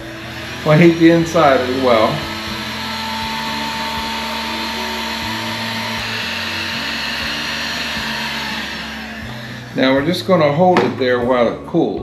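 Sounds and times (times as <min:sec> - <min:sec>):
heat gun blowing air: 0:00.0 - 0:10.6.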